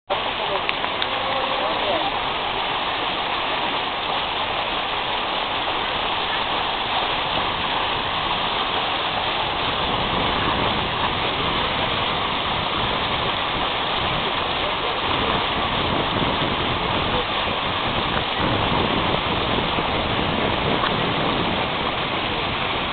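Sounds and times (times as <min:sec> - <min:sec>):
water rushing: 0:00.1 - 0:22.9.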